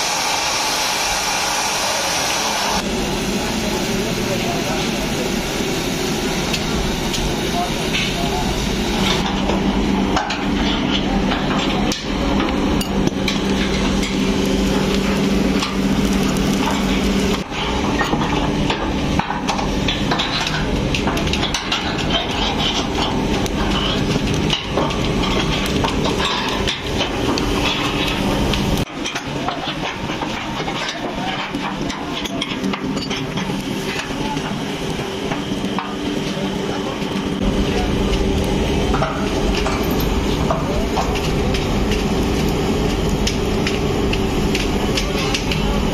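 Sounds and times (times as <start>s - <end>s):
machinery hum: 0.0s - 45.9s.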